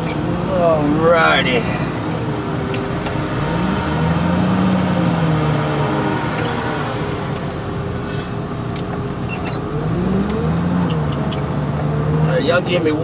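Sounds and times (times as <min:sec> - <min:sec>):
heavy equipment engine revving: 0:00.0 - 0:08.5, 0:09.6 - 0:13.0.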